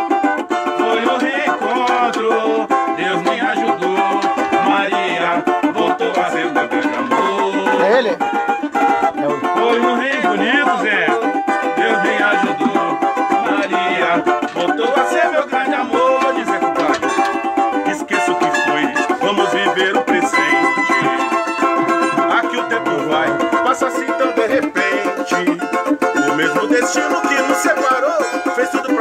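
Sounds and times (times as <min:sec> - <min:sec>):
strummed string instruments: 0:00.0 - 0:29.0.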